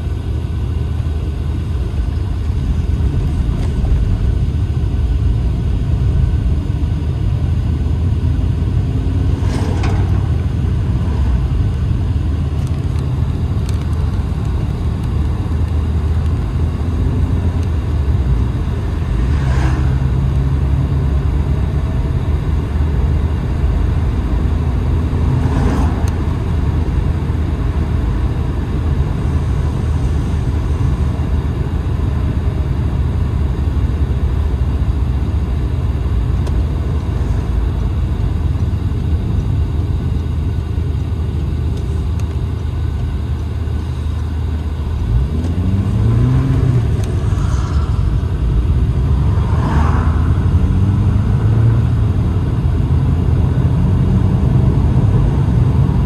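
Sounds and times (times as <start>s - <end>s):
car cabin engine and tyre rumble: 0.0s - 56.0s.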